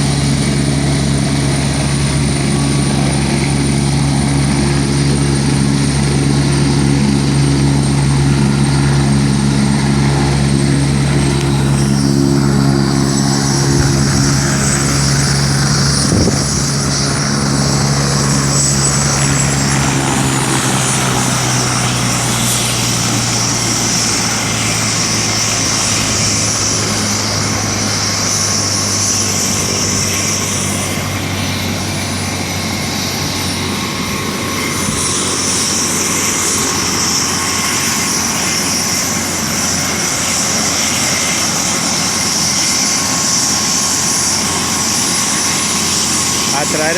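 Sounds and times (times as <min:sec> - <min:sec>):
helicopter rotor: 0:00.0 - 0:46.9
high turbine whine: 0:00.0 - 0:46.9.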